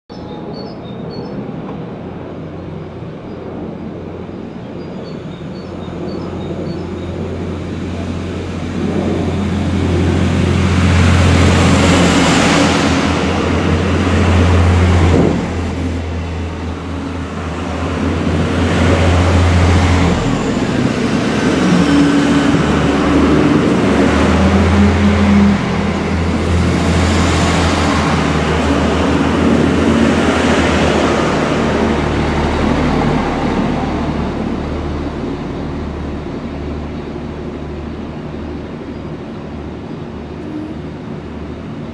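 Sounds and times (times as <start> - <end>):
train diesel engine drone: 0.1 - 41.9
train wheels rumbling on rails: 5.3 - 41.9.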